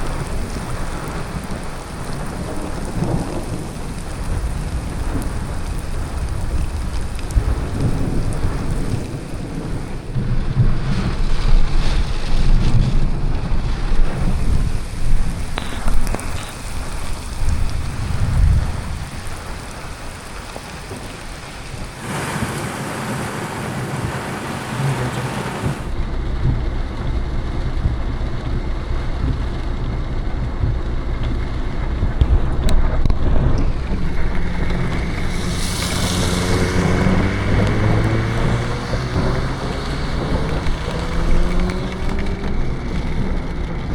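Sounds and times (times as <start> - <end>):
rain on a car: 0.0 - 43.9
thunder rumbling: 0.0 - 43.9.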